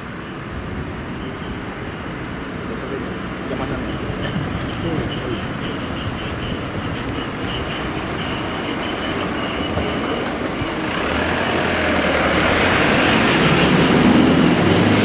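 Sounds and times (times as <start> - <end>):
train running slowly: 0.0 - 15.0.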